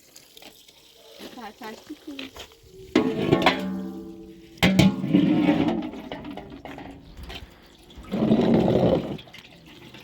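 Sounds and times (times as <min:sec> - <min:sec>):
water splashing and pouring: 0:00.0 - 0:10.0.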